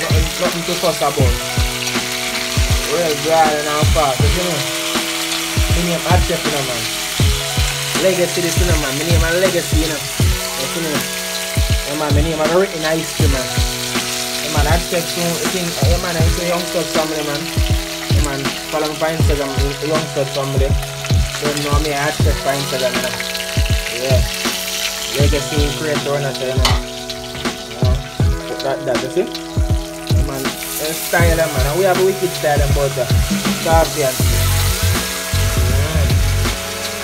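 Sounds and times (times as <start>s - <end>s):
background music with deep beat: 0.0s - 37.0s
fish sizzling in hot oil: 0.0s - 37.0s.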